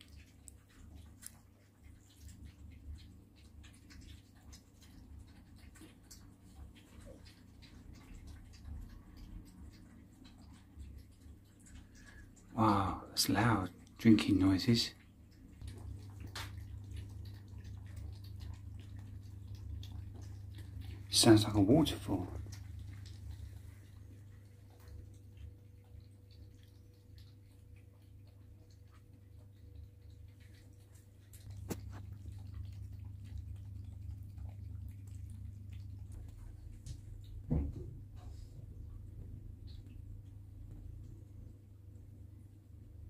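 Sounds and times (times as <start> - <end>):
cats lapping milk: 0.0 - 43.0.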